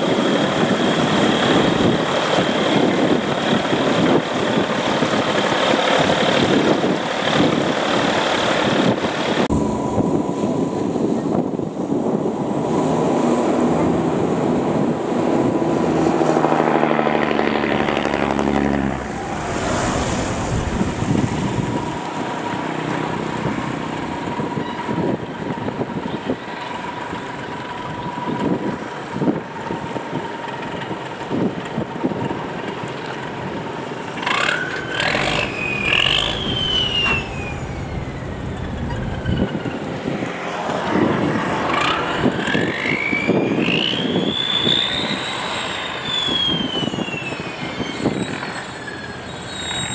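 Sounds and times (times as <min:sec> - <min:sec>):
boat engine hum: 0:00.0 - 0:49.9
high-pitched engine whines: 0:00.0 - 0:49.9.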